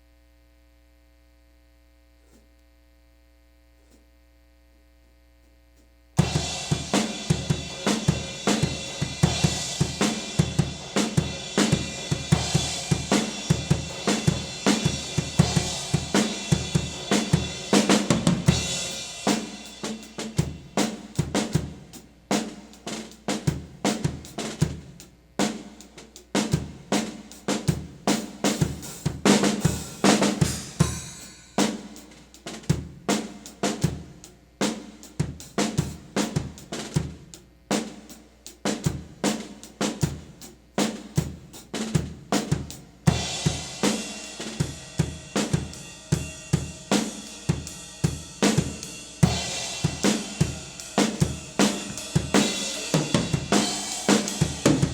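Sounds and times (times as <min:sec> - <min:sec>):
mains hum: 0:00.0 - 0:54.9
drum kit groove: 0:06.2 - 0:54.9.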